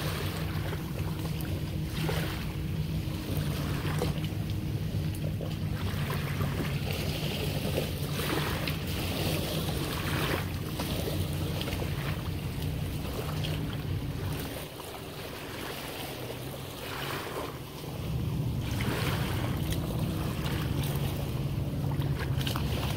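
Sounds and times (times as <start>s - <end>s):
small waves lapping shoreline: 0.0s - 22.9s
steady low hum: 0.0s - 22.9s.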